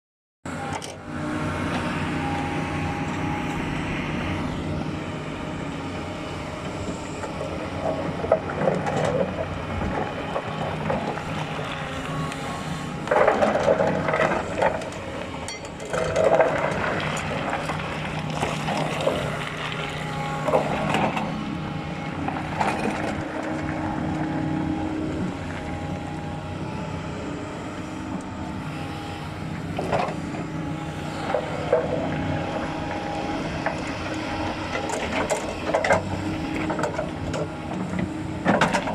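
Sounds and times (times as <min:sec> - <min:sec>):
excavator diesel engine: 0:00.5 - 0:38.9.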